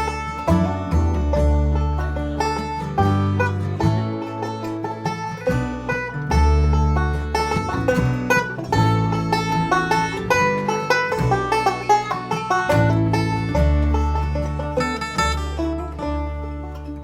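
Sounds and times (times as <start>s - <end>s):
banjo picking: 0.0s - 17.0s
double bass: 0.0s - 17.0s
guitar: 0.0s - 17.0s.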